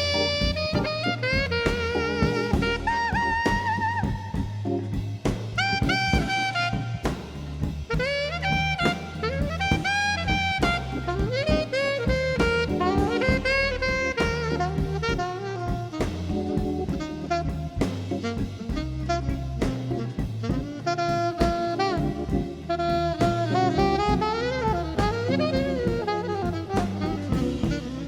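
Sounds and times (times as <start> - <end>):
bass and drum kit: 0.0 - 28.0
jazz saxophone melody: 0.0 - 28.0.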